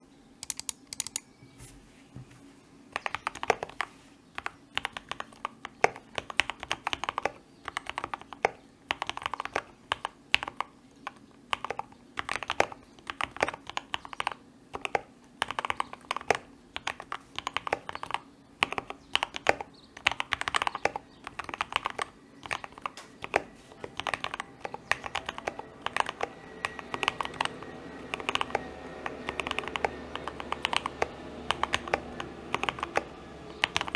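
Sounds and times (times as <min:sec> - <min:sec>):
faint background hum: 0:00.0 - 0:33.9
mechanical keyboard typing: 0:00.4 - 0:01.3, 0:03.0 - 0:33.9.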